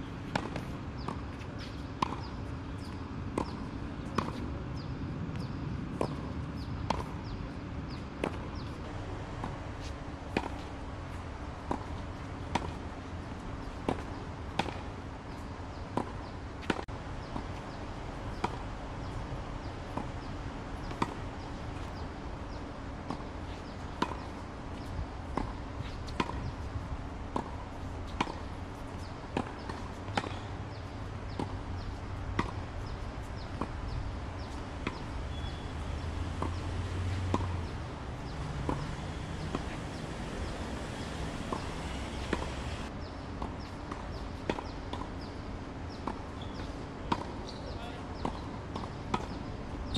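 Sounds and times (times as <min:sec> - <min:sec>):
tennis balls bouncing on court: 0:00.0 - 0:49.9
tennis balls popping off rackets: 0:00.2 - 0:17.7, 0:18.3 - 0:45.3, 0:45.9 - 0:49.9.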